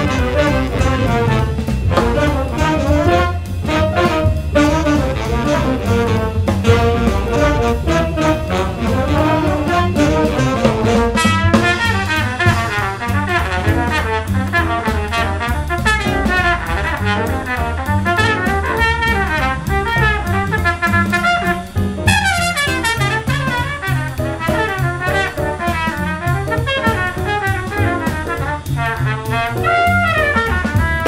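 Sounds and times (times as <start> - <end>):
drum kit: 0.0 - 31.0
piano: 0.0 - 31.0
saxophones and trombone: 0.0 - 31.0
trumpet solo: 0.0 - 31.0
upright bass: 0.0 - 31.0.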